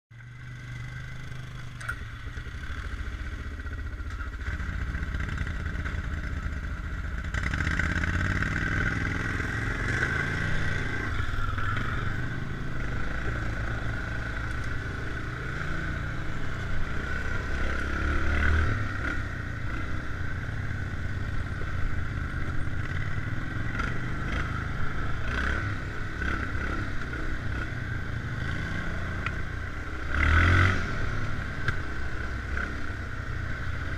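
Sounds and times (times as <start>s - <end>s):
atv engine revving: 0.2s - 33.9s.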